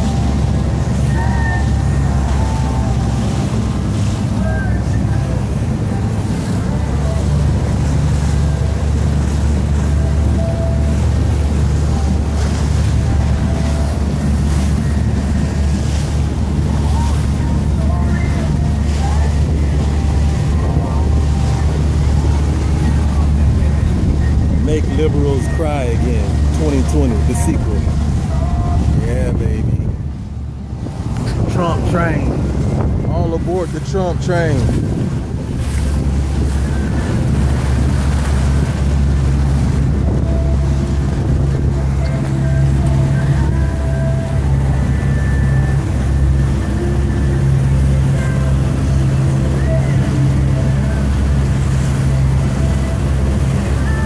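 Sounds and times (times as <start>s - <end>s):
boat engine drone: 0.0s - 54.0s
water rushing past hull: 0.0s - 54.0s
wind buffeting microphone: 0.0s - 54.0s.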